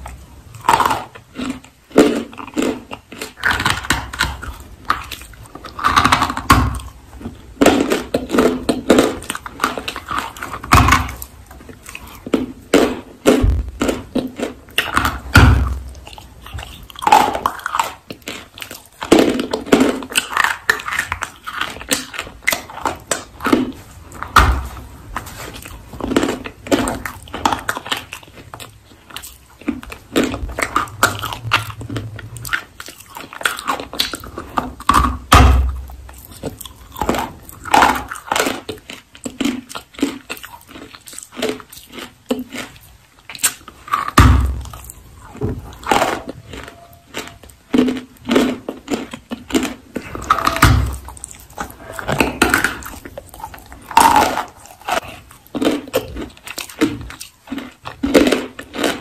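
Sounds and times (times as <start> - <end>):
biting and crunching clay: 0.0 - 59.0
chewing: 0.0 - 59.0.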